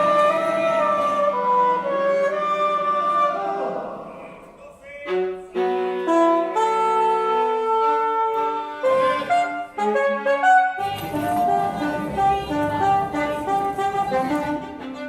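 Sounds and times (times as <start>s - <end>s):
reed wind instrument notes: 0.0s - 15.0s.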